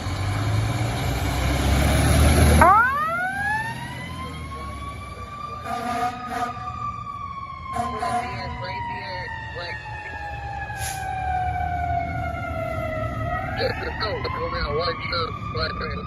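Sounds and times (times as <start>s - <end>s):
fire engine rumble: 0.0s - 16.0s
mechanical siren wailing: 2.5s - 16.0s.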